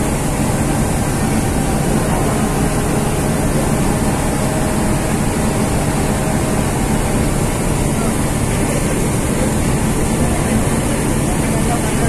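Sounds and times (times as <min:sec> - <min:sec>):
ferry engines rumbling: 0:00.0 - 0:12.0
water noise: 0:00.0 - 0:12.0
wind: 0:00.0 - 0:12.0.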